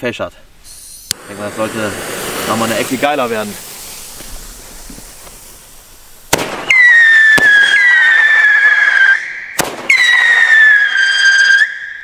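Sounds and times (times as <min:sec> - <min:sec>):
firework high whistle: 0:00.6 - 0:05.7, 0:06.3 - 0:12.0
firework cracks: 0:00.7 - 0:12.0.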